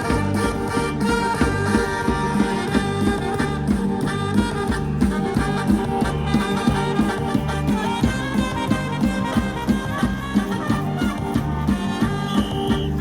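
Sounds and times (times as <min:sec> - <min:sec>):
brass band playing: 0:00.0 - 0:13.0
steady drumbeat: 0:00.0 - 0:13.0.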